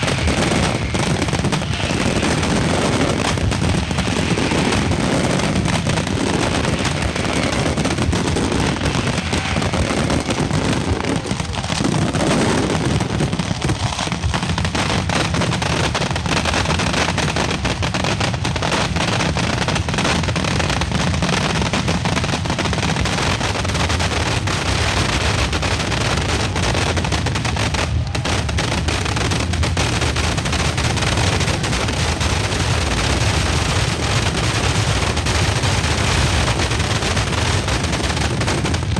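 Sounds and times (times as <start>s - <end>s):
firecrackers rapid bangs: 0.0s - 38.9s.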